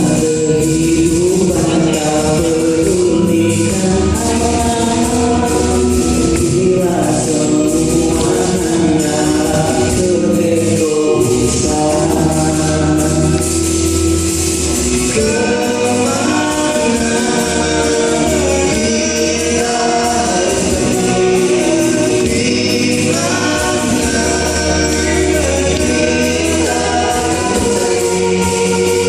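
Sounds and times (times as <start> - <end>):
vocal group singing in harmony: 0.0 - 29.0.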